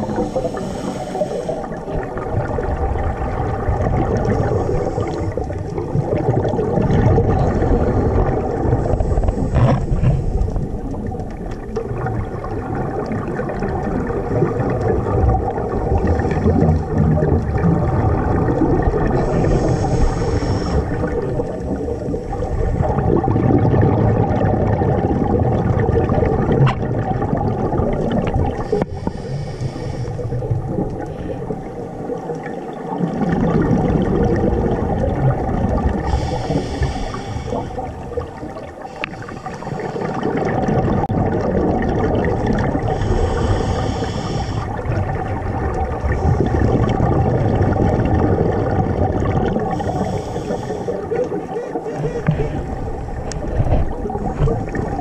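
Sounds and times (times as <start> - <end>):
low rumble of moving water: 0.0 - 55.0
regulator bubbles hissing: 0.0 - 55.0.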